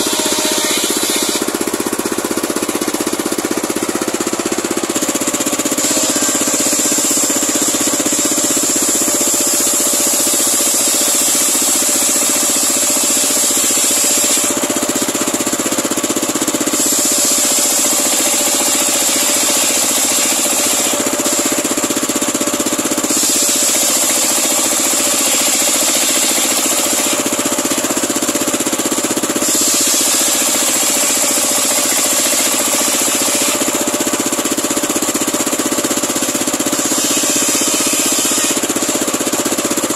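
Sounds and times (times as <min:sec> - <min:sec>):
saw blade hissing: 0:00.0 - 0:14.7, 0:16.7 - 0:22.0, 0:23.0 - 0:28.0, 0:29.3 - 0:34.4, 0:36.6 - 0:39.2
sawmill engine running: 0:00.0 - 0:39.9.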